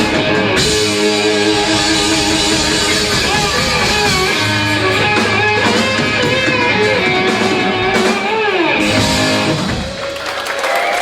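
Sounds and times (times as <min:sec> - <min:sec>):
electric guitar lead: 0:00.0 - 0:10.2
live rock band: 0:00.0 - 0:10.9.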